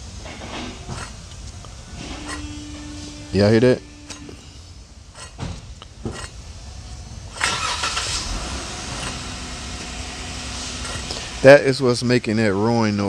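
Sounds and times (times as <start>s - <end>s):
wheel bearing grinding: 0.0s - 11.8s.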